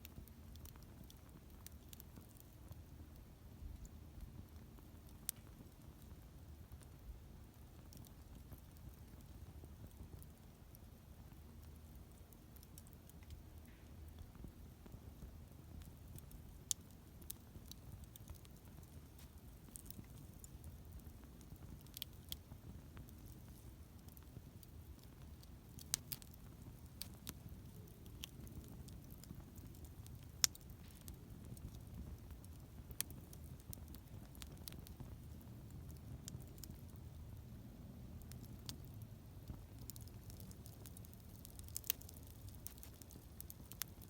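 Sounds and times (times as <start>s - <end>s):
campfire crackling and popping: 0.0s - 44.0s
low steady rumble: 0.0s - 44.0s.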